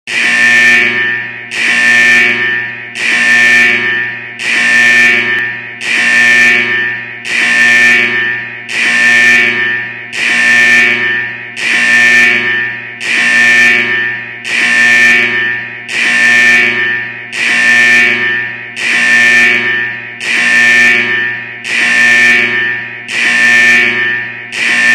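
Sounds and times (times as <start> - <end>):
alarm pulses: 0.1 - 24.9.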